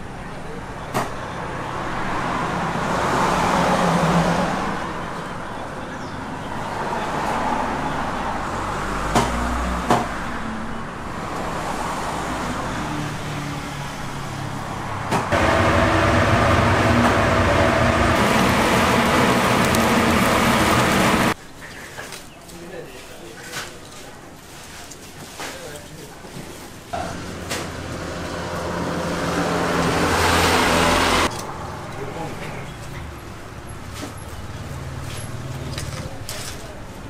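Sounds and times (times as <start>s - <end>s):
road traffic: 0.0s - 22.7s, 25.7s - 37.0s.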